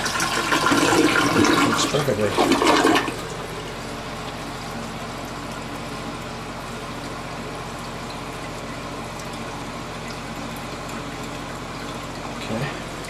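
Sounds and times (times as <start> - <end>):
toilet refilling with water hiss: 0.0 - 13.0.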